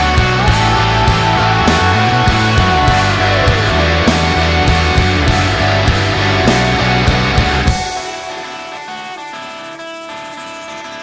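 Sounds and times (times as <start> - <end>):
electric guitar sustained notes: 0.0 - 11.0.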